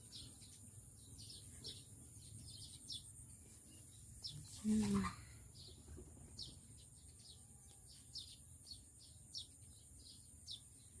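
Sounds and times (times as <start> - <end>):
faint bird chirping: 0.0 - 11.0.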